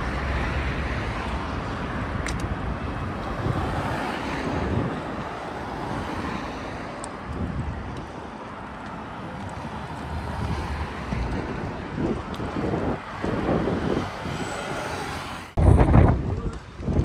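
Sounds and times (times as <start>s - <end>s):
steady rushing noise: 0.0s - 17.0s
wind gusting on microphone: 0.0s - 17.0s.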